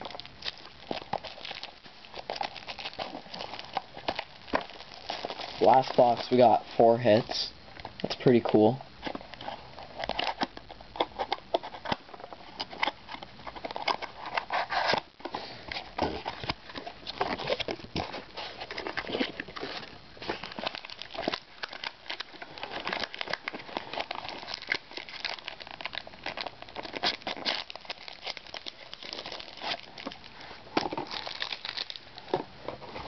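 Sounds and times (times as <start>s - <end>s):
plastic wrapping crinkling and tearing: 0.0s - 33.0s.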